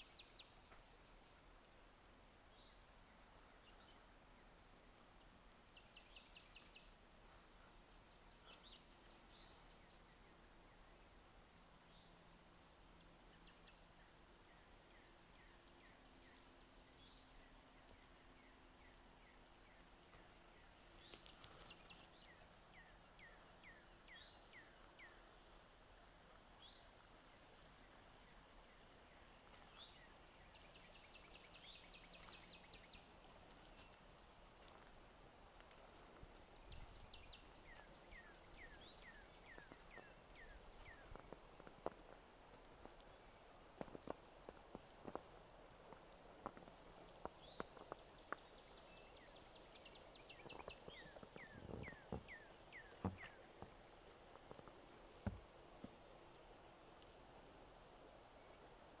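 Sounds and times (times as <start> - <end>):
small songbirds calling: 0.0 - 12.3, 12.9 - 45.2, 45.9 - 59.0.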